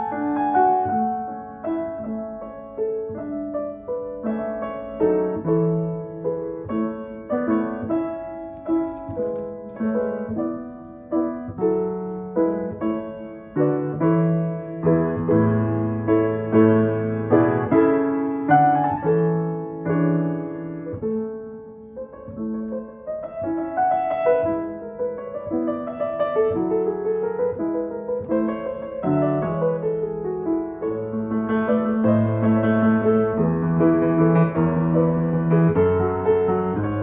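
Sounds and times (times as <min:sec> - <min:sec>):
piano chords and melody: 0:00.0 - 0:37.0.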